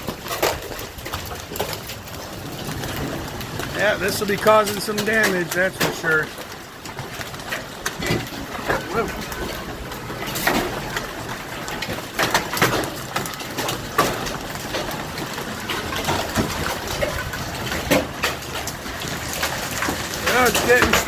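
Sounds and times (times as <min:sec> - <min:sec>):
hail and wind hissing: 0:00.0 - 0:21.0
hailstones cracking on hard surfaces: 0:00.0 - 0:21.0.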